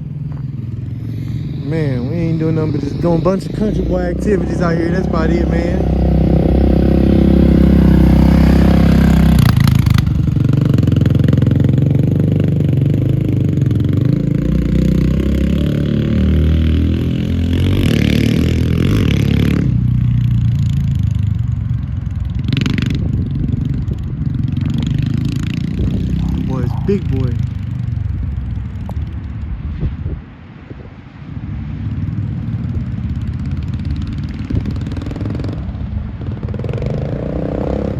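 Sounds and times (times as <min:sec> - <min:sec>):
atv engine revving: 0:00.0 - 0:21.1, 0:22.3 - 0:27.9, 0:32.9 - 0:35.8, 0:36.4 - 0:37.9.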